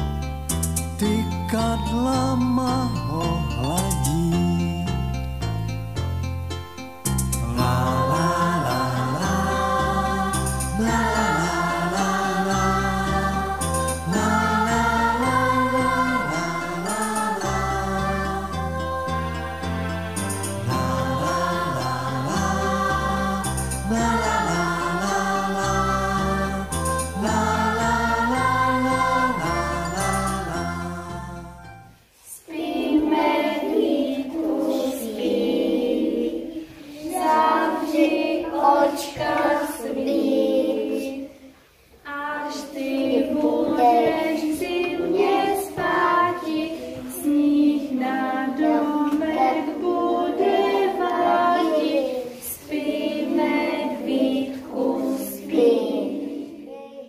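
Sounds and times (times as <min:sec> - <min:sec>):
young children singing: 0:07.3 - 0:57.0.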